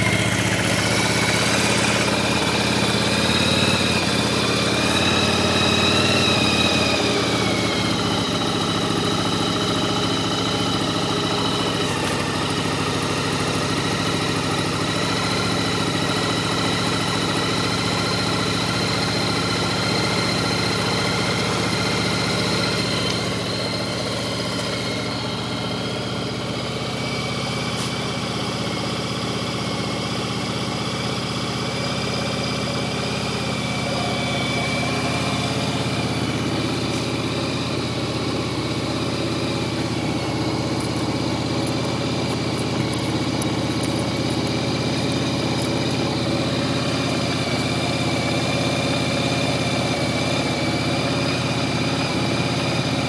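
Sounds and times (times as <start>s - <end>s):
motorcycle engine idling with knocking: 0.0s - 53.0s.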